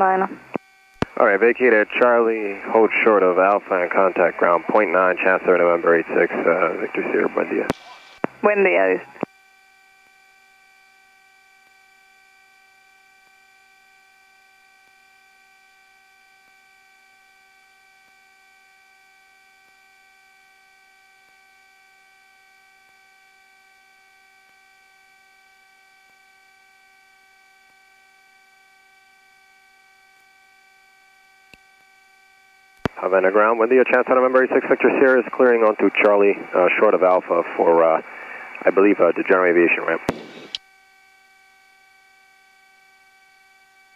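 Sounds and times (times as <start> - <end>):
electrical hum: 0.0 - 43.9.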